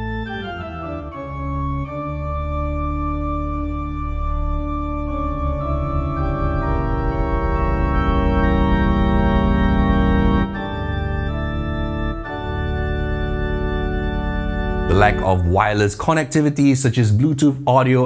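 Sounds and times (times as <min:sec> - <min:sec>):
organ chords on digital piano: 0:00.0 - 0:17.1.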